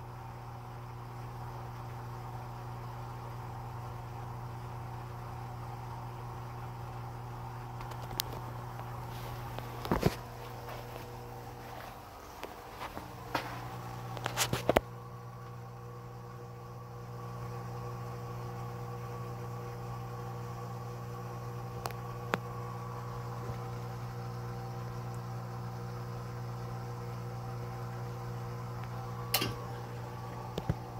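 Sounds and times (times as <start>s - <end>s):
mechanical hum: 0.0s - 30.9s.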